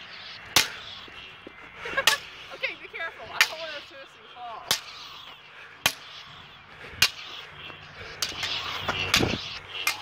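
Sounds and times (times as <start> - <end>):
toy lightsabers clashing: 0.2 - 1.1, 1.9 - 10.0.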